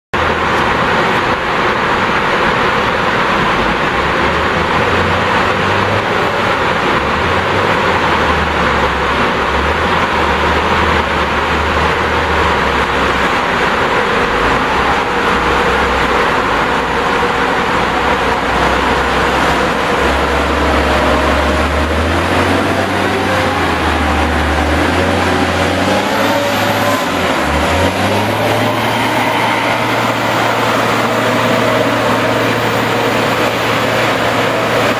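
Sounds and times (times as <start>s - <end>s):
mine loader diesel engine: 0.1s - 34.9s
loud mechanical rush: 0.2s - 34.9s.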